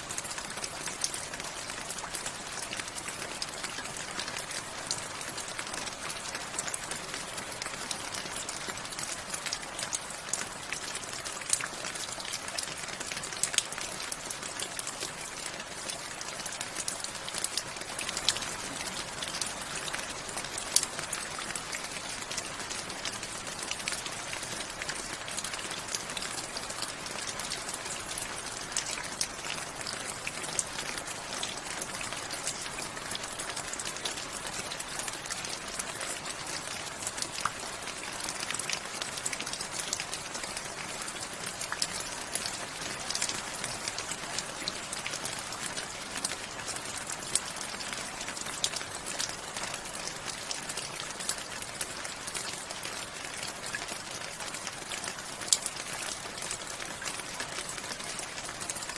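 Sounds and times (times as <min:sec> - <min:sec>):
raindrops ticking on hard surface: 0:00.1 - 0:58.9.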